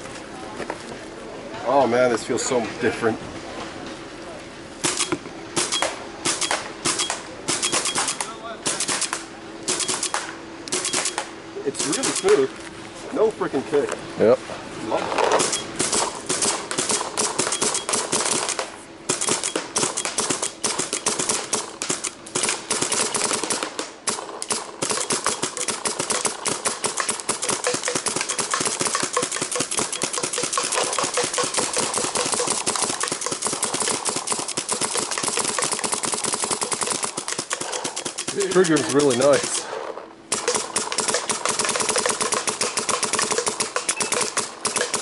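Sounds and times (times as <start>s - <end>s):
paintball marker firing rapidly: 4.8s - 12.4s, 15.4s - 45.0s.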